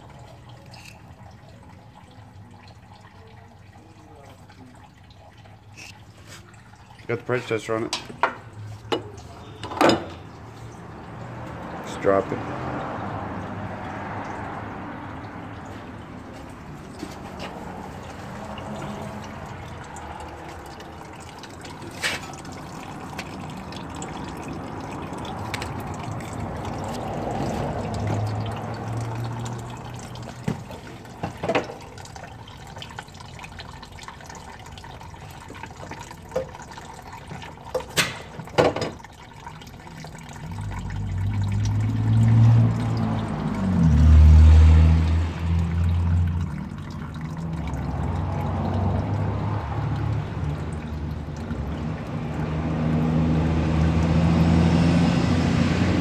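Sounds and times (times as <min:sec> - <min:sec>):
liquid running and dripping: 0:00.0 - 0:56.0.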